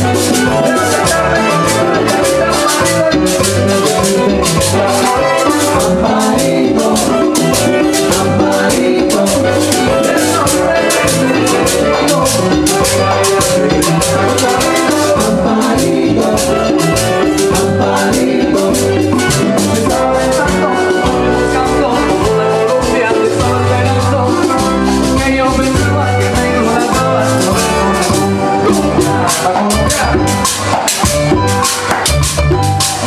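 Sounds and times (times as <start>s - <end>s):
bass line: 0.0s - 33.0s
drums: 0.0s - 33.0s
maracas: 0.0s - 33.0s
salsa dance music: 0.0s - 33.0s.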